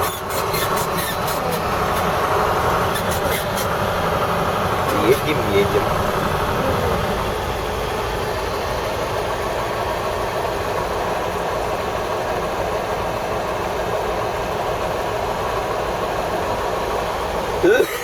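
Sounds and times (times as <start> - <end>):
truck diesel engine rumble: 0.0 - 18.0.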